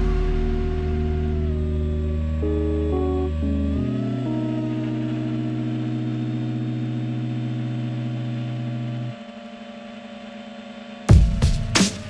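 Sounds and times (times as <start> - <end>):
quiet sustained tone: 0.0 - 11.1
held synth chord with bass: 0.0 - 11.7.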